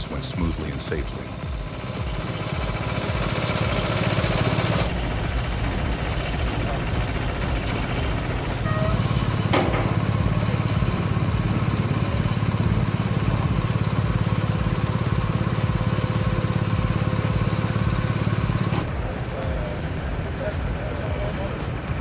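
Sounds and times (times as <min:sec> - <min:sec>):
sharp knock: 0:00.0 - 0:21.2
large diesel engine throbbing: 0:00.0 - 0:22.0.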